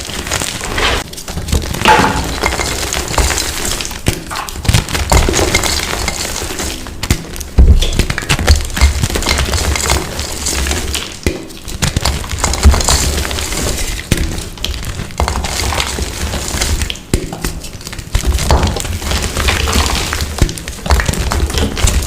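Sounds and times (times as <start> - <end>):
chalk blocks being crushed: 0.0 - 22.0.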